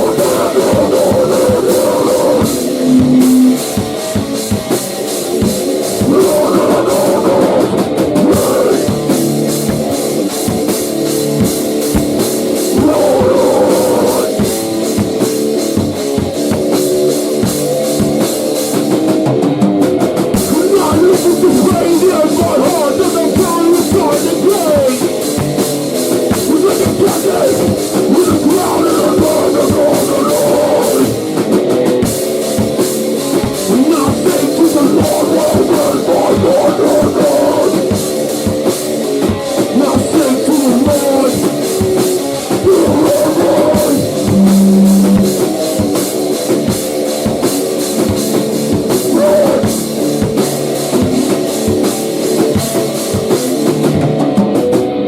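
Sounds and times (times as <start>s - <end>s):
drum kit fast pattern: 0.0s - 55.0s
electric guitar: 0.0s - 55.0s.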